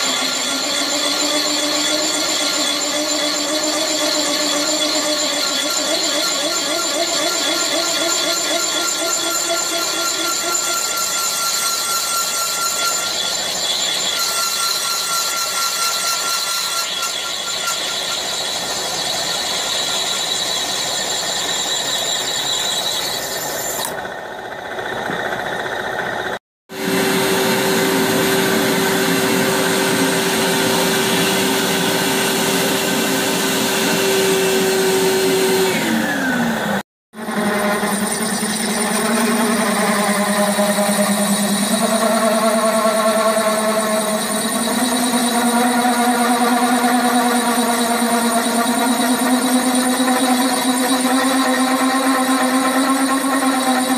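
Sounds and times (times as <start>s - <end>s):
milling machine whine: 0.0s - 53.9s.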